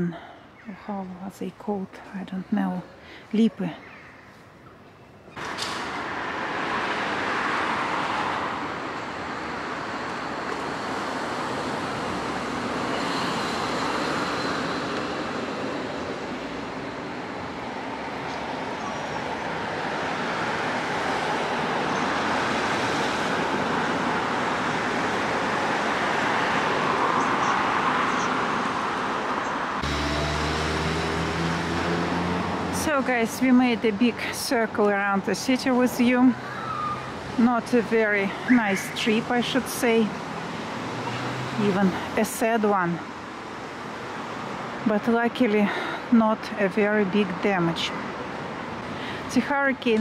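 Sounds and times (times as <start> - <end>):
cars passing: 5.3 - 50.0.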